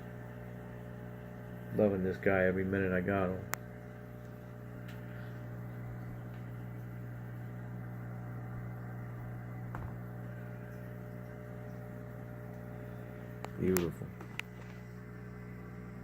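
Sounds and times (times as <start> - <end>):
electrical hum of aquarium equipment: 0.0 - 16.0.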